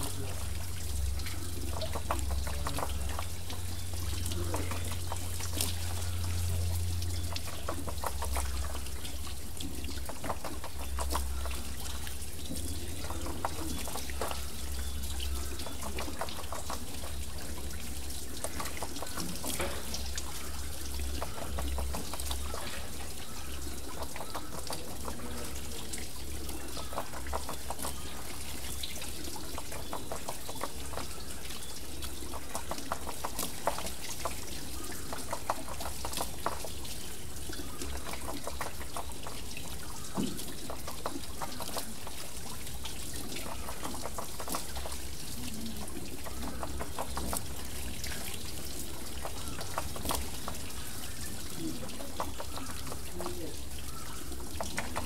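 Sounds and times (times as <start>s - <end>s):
small splashes and drips: 0.0s - 55.0s
water trickling off water wheel: 0.0s - 55.0s.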